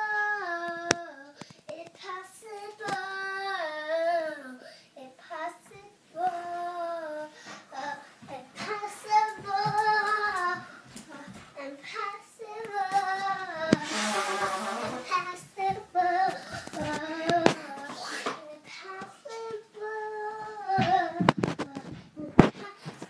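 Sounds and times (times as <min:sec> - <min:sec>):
child singing: 0:00.0 - 0:23.0.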